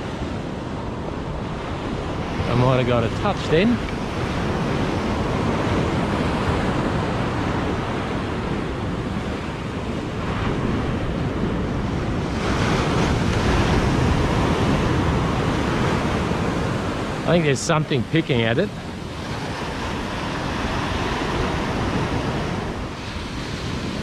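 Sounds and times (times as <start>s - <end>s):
surf washing onto beach: 0.0s - 24.0s
wind on microphone: 0.0s - 24.0s.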